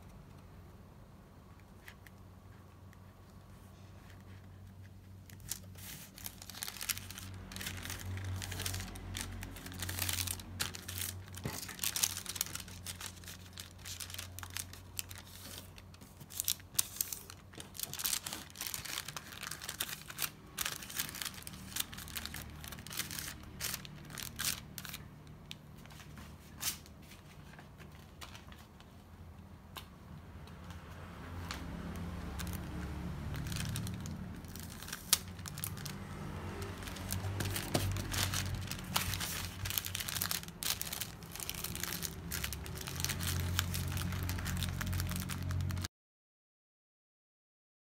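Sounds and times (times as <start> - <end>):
wrapping paper crinkling: 3.7 - 29.0, 31.4 - 45.9.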